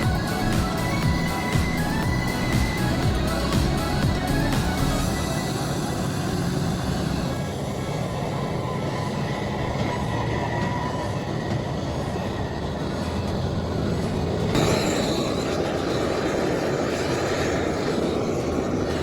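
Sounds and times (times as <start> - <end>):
factory machinery rumble: 0.0 - 19.0
faint steady whines: 0.0 - 19.0.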